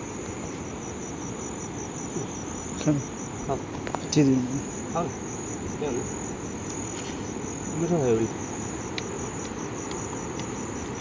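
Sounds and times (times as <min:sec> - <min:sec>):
insects trilling in grass: 0:00.0 - 0:11.0.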